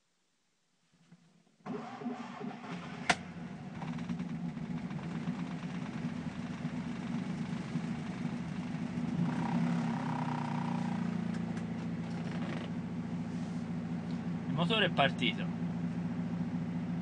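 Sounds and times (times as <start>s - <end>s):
small car engine running: 1.7s - 17.0s.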